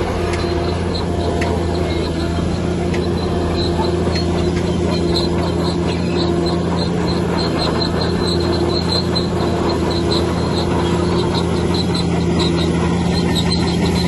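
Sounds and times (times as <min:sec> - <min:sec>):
bulldozer diesel engine running: 0:00.0 - 0:14.0
crawler tracks squealing: 0:00.0 - 0:14.0.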